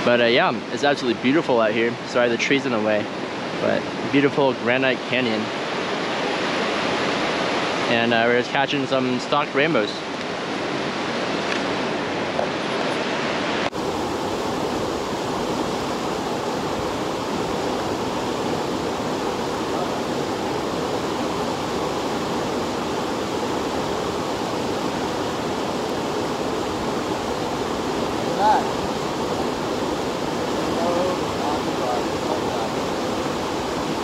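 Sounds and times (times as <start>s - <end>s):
river rushing: 0.0s - 34.0s.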